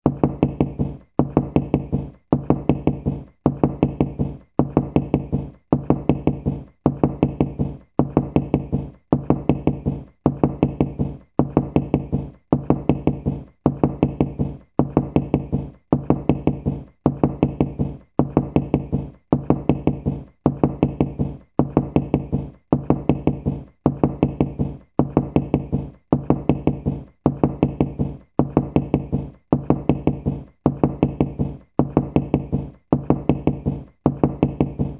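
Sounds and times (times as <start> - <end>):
knuckles knocking: 0.0 - 34.9.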